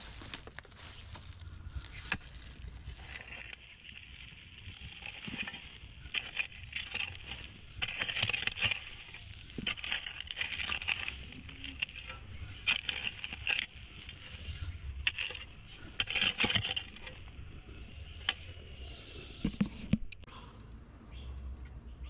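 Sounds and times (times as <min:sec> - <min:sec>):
hoe scraping earth: 0:00.0 - 0:20.0
soil and grit falling: 0:00.0 - 0:20.3.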